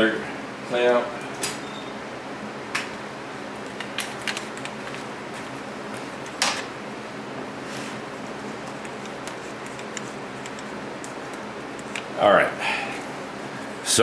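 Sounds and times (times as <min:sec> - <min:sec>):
background hum: 0:00.0 - 0:14.0.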